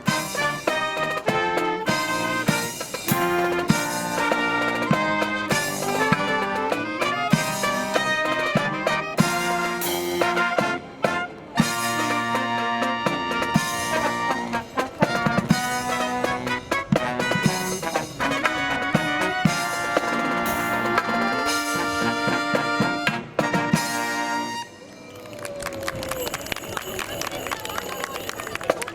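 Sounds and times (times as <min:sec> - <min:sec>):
marching brass band playing: 0:00.0 - 0:25.0.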